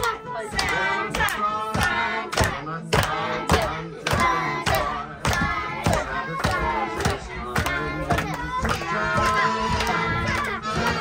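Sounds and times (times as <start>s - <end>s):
group singing: 0.0s - 11.0s
people clapping in time: 0.0s - 11.0s.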